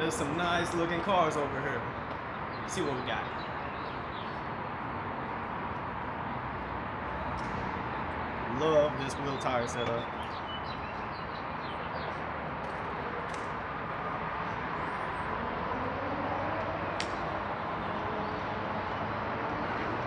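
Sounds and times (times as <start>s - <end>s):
urban background noise: 0.0s - 20.0s.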